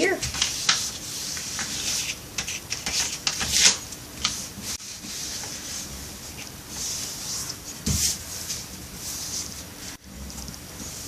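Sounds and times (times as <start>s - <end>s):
paper rustling and folding: 0.0s - 11.0s.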